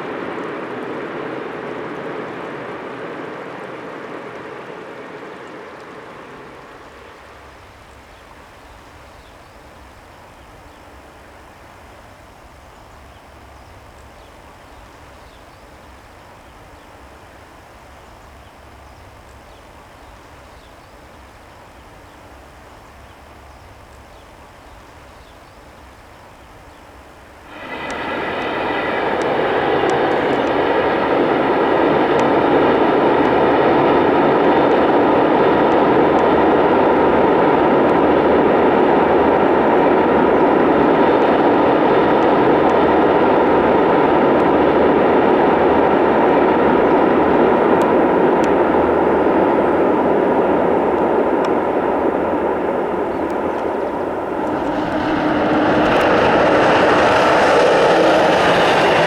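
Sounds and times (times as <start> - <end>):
faint steady whine: 0.0 - 59.0
train rushing at speed: 0.0 - 59.0.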